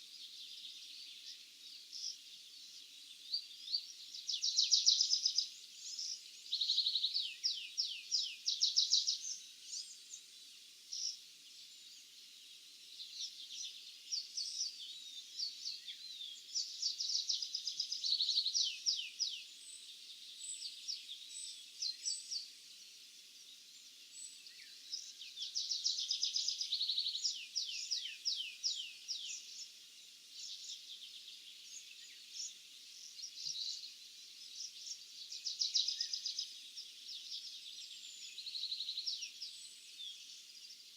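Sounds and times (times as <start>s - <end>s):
songbirds trilling: 0.0s - 40.9s.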